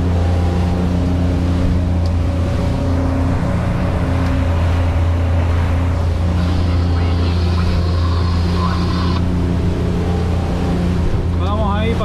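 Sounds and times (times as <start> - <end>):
boat engines droning: 0.0 - 12.0
water and wind rushing: 0.0 - 12.0.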